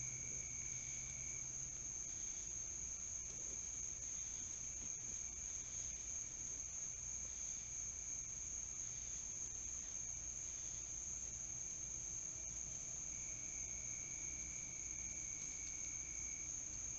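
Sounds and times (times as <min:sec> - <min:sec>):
crickets chirping: 0:00.0 - 0:16.9.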